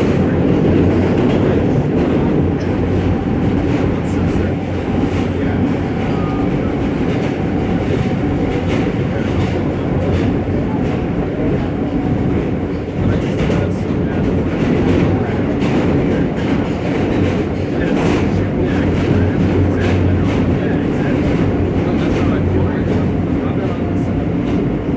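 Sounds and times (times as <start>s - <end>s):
subway train wheels on rails: 0.0s - 24.9s.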